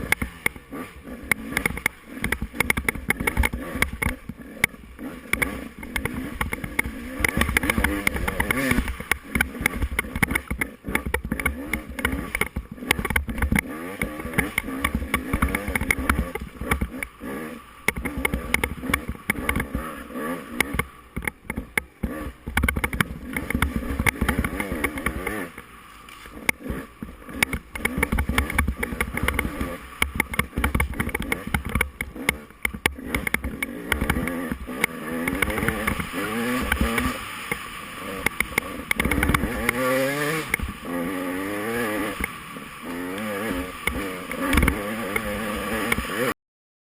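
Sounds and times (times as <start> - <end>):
dirt bike engine revving: 0.0 - 46.4.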